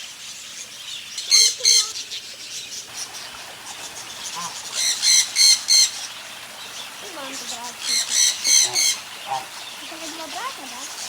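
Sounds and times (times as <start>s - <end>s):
faint bird chirping: 0.0s - 11.0s
birds squawking: 1.2s - 11.0s.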